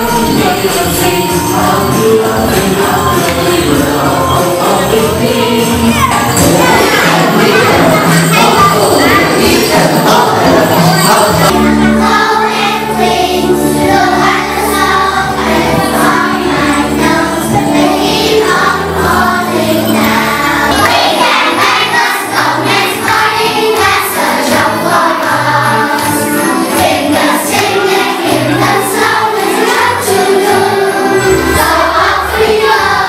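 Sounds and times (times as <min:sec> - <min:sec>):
children's choir singing: 0:00.0 - 0:33.0
instrumental accompaniment: 0:00.0 - 0:33.0.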